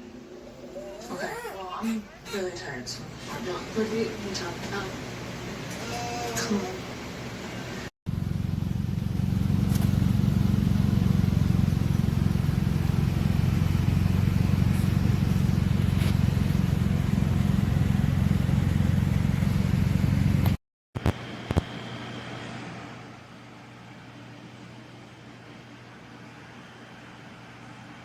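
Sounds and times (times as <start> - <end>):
air conditioner humming: 0.0 - 20.4, 21.1 - 28.0.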